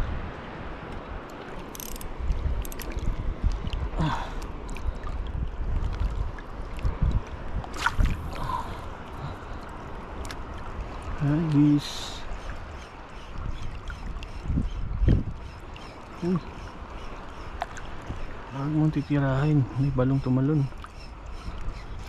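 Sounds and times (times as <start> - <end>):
water sloshing at shoreline: 0.0 - 22.0
wind rumbling on microphone: 0.0 - 22.0.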